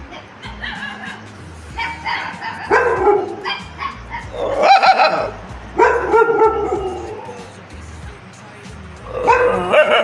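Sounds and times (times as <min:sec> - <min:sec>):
dog barking and yipping: 0:00.0 - 0:07.5, 0:09.2 - 0:10.0.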